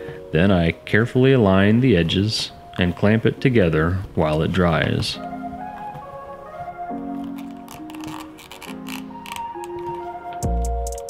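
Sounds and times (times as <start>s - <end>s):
soft background music chords: 0.0s - 11.0s.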